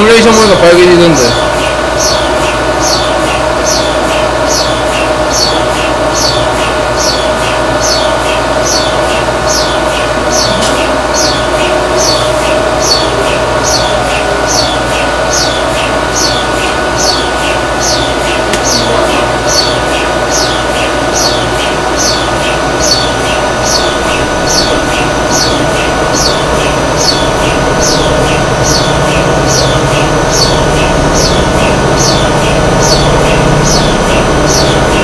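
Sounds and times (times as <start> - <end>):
high chirp: 0.0 - 35.0
machine hum with whining tones: 0.0 - 35.0.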